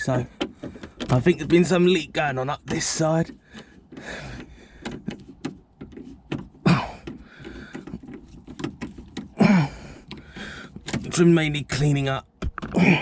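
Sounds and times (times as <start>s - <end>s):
clicks and knocks on plastic trim: 0.0s - 12.9s.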